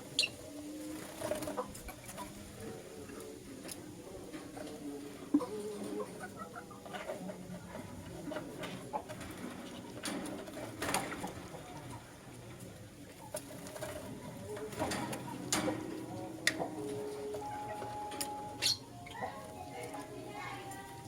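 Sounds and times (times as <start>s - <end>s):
lovebirds chirping and chattering: 0.0s - 9.3s, 10.9s - 21.0s.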